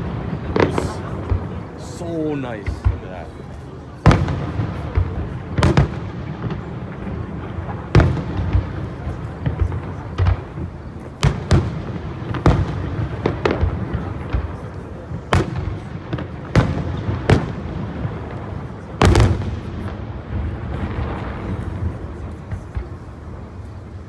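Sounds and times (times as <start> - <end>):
fireworks booming: 0.0 - 3.4, 4.0 - 24.0.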